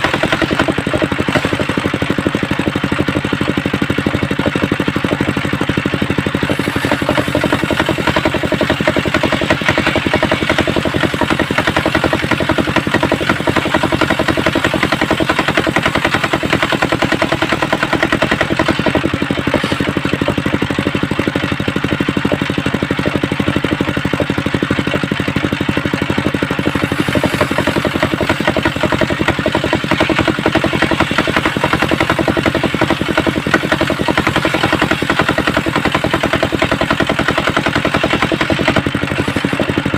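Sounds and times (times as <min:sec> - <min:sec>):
engine driving circular saw: 0:00.0 - 0:39.9.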